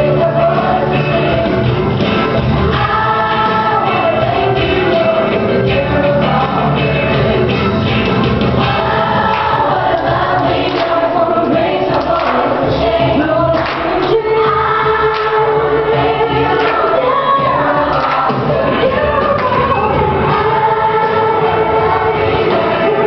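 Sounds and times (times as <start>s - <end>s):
upbeat song with choir singing: 0.0s - 23.0s.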